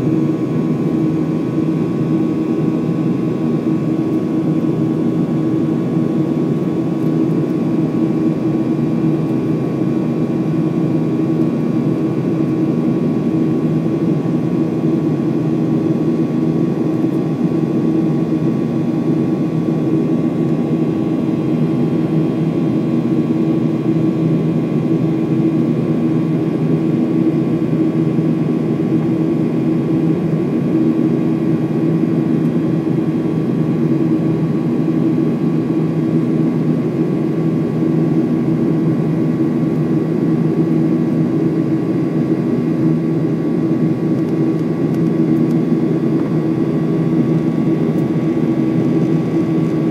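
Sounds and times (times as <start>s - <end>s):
airplane cabin drone: 0.0s - 49.9s.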